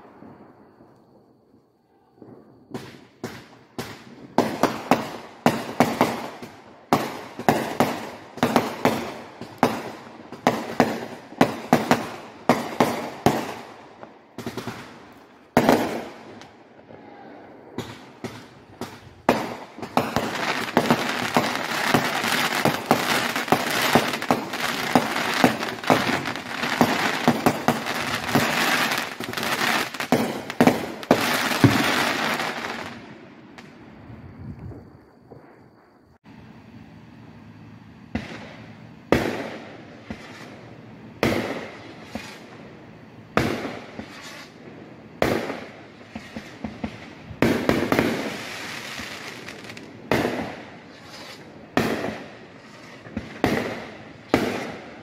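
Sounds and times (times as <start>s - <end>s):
fireworks crackling: 0.0s - 1.0s, 2.2s - 36.2s, 38.0s - 55.0s
fireworks banging: 2.2s - 33.8s, 38.0s - 42.6s, 43.3s - 55.0s.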